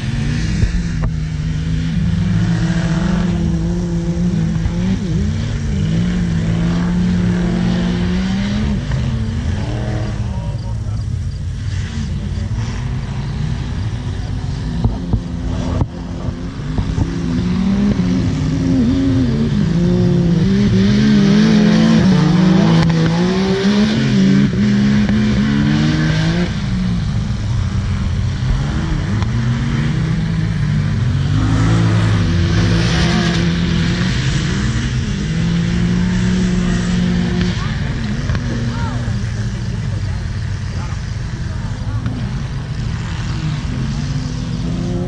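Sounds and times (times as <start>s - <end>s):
off-road racing engines revving: 0.0s - 45.0s.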